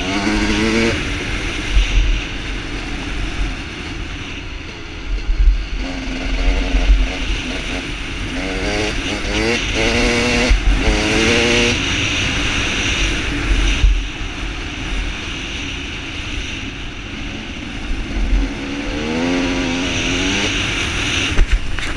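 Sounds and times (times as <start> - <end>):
dirt bike engine revving: 0.0 - 14.2, 16.4 - 21.9
heavy wind noise: 0.0 - 21.9.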